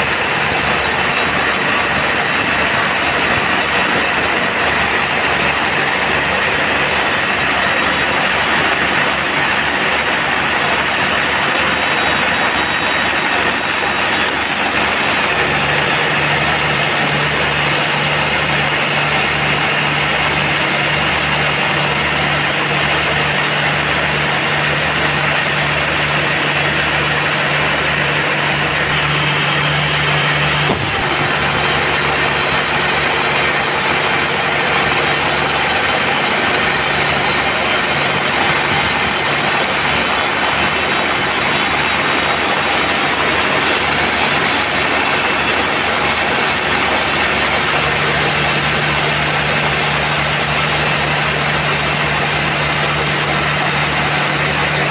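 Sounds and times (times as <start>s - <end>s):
bandsaw machinery running: 0.0s - 54.9s.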